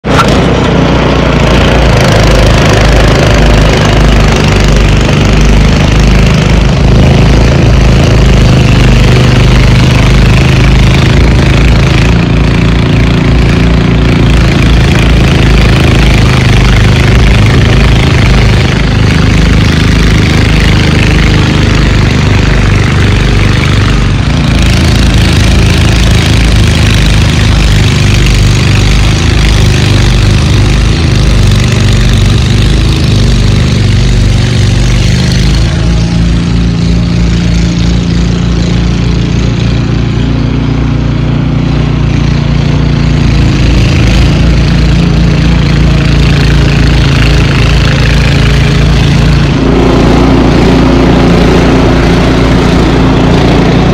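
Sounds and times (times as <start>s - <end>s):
snowblower engine drone: 0.0s - 53.9s.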